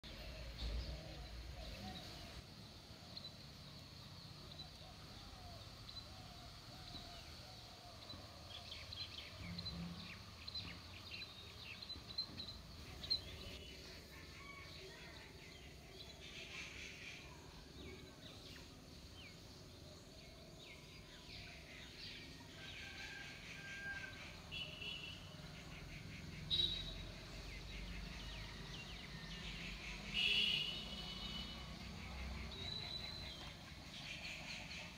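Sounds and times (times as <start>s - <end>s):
small birds chirping: 0.0s - 34.9s
steady low background noise: 0.0s - 34.9s.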